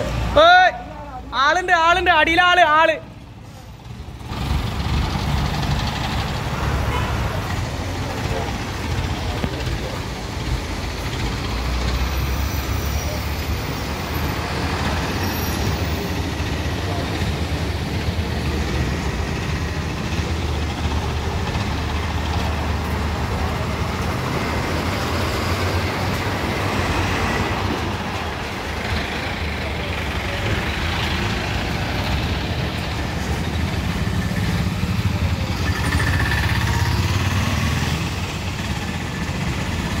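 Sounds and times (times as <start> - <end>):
road traffic noise: 0.0 - 40.0.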